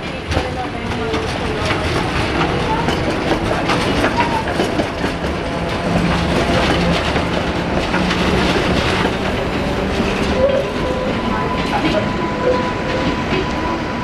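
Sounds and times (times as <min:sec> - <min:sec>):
tram wheels clattering over rail joints: 0:00.0 - 0:14.0.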